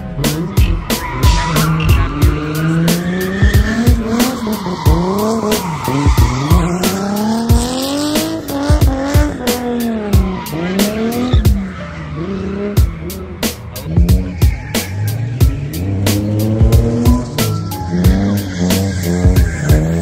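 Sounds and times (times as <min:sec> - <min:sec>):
car engine revving hard: 0:00.0 - 0:20.0
tyres squealing: 0:00.3 - 0:20.0.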